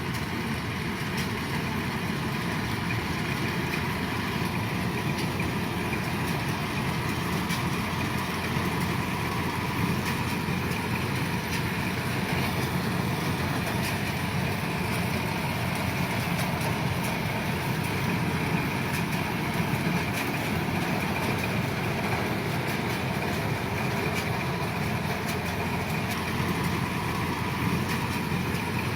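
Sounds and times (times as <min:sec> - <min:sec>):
combine harvester diesel engine: 0:00.0 - 0:28.9.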